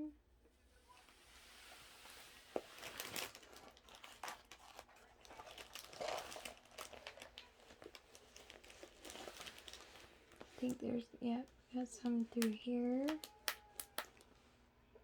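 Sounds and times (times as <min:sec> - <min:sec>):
plastic crinkling: 0:01.0 - 0:14.5.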